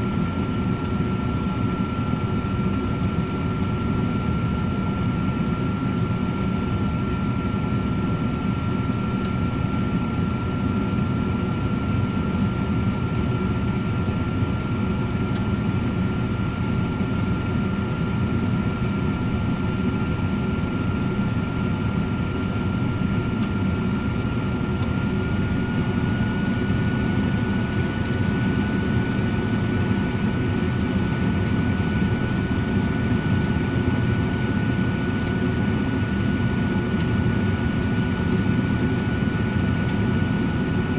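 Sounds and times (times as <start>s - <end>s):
air fryer fan whirring: 0.0s - 40.9s.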